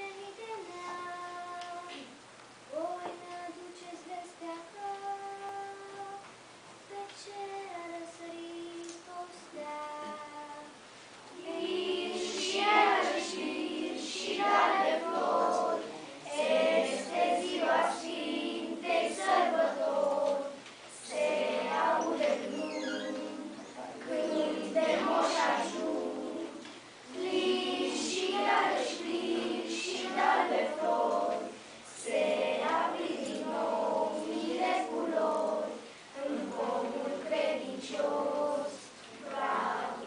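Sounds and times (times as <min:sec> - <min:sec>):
children's choir singing unaccompanied: 0:00.0 - 0:40.0.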